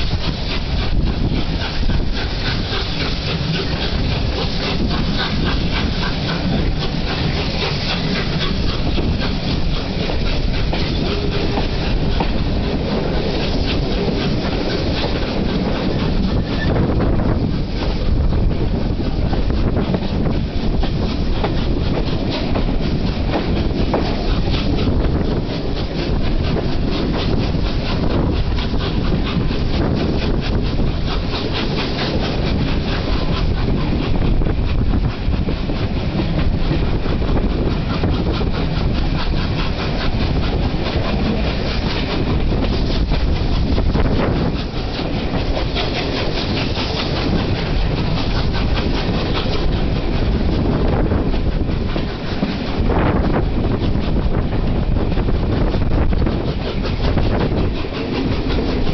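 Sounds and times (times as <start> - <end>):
steam locomotive exhaust beats: 0.0 - 58.9
train wheels clicking over rail joints: 0.0 - 58.9
wind noise: 0.0 - 58.9.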